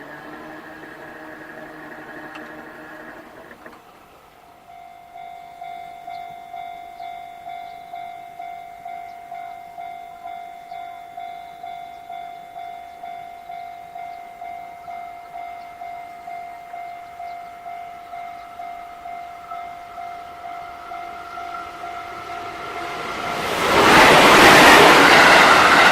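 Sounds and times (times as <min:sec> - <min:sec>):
level crossing warning bell: 0:00.0 - 0:03.6, 0:04.3 - 0:25.9.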